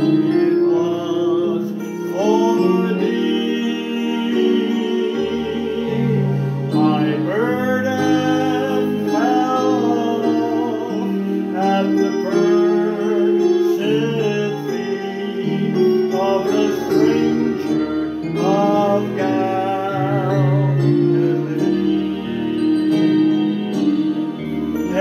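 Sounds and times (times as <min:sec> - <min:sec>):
group of voices singing: 0:00.0 - 0:23.8
electronic keyboard playing: 0:00.0 - 0:25.0.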